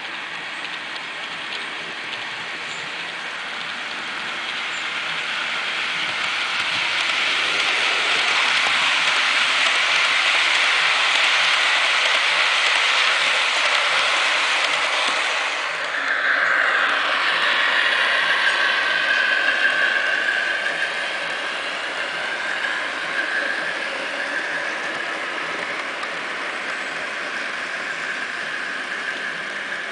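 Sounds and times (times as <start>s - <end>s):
model train whirring on track: 0.0s - 29.9s.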